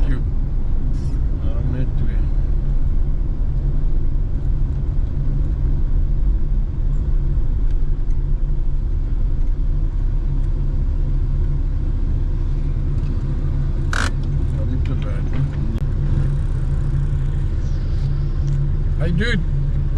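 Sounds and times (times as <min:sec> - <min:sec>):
vehicle engine and road rumble: 0:00.0 - 0:19.9.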